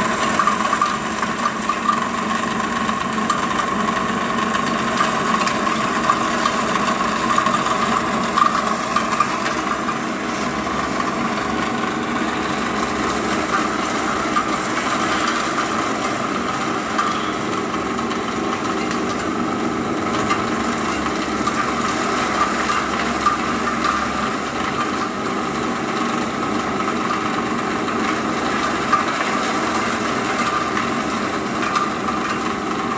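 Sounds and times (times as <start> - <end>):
machine whirring and whining: 0.0 - 32.9.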